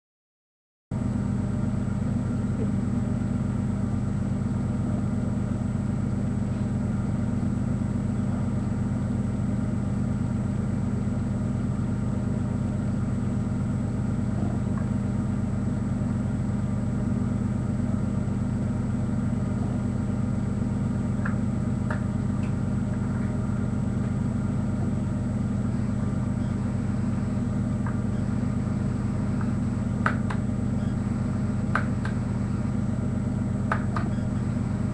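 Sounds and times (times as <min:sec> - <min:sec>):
low droning hum: 0:01.0 - 0:34.9.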